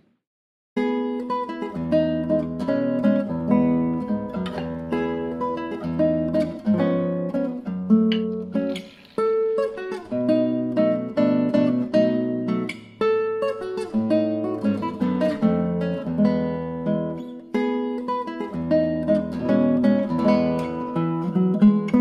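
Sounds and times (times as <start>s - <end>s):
classical guitar music: 0.8s - 22.0s.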